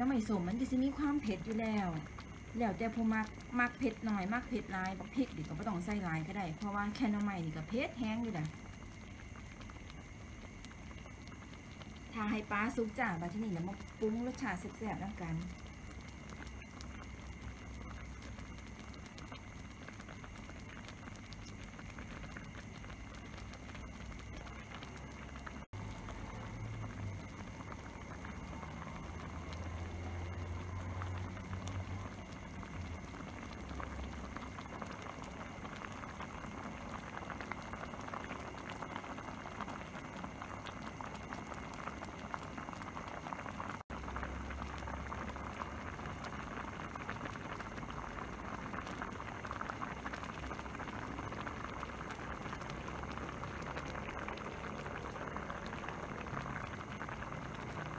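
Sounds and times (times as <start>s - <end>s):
broth bubbling in a pot: 0.0s - 57.9s.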